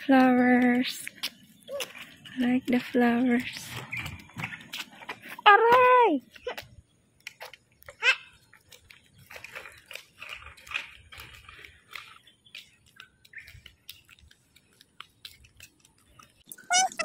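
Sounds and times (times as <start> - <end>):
kick scooter rolling on concrete: 0.0 - 17.0.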